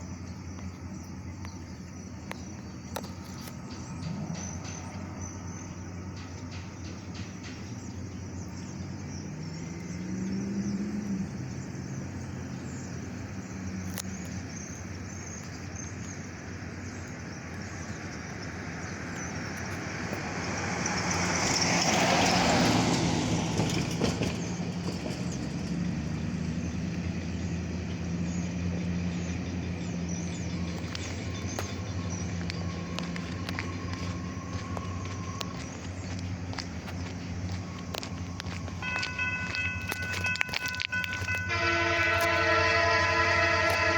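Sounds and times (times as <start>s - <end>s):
insects chirring: 0.0s - 43.9s
road vehicle passing: 0.0s - 43.9s.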